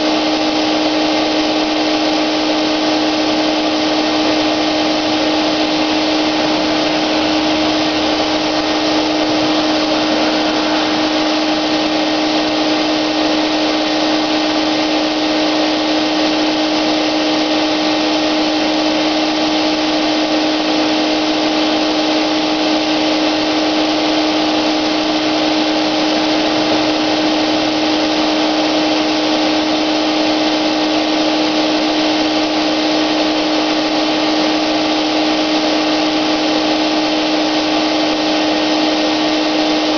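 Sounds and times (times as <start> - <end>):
electric paint sprayer running: 0.0 - 39.9.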